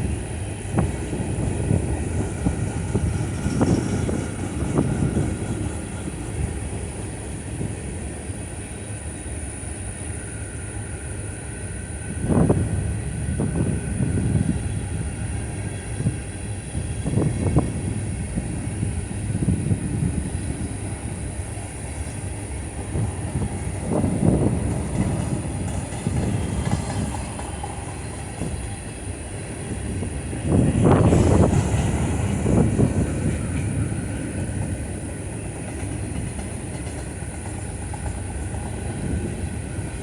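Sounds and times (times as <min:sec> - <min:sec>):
train wheels clunking and clattering: 0:00.0 - 0:08.7, 0:12.2 - 0:40.0
freight train rolling past: 0:00.0 - 0:40.0.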